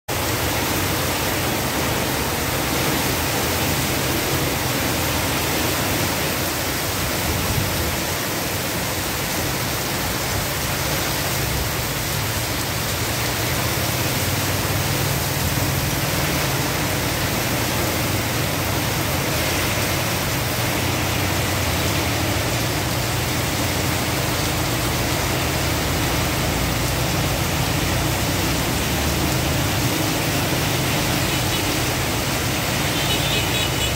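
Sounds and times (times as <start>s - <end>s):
heavy rain on flooded street: 0.1s - 33.9s
motorbikes passing through water: 0.1s - 33.9s.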